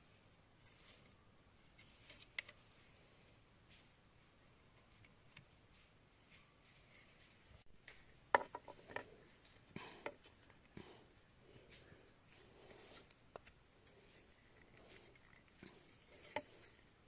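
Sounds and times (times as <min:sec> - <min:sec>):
soft rubbing: 0:00.0 - 0:17.0.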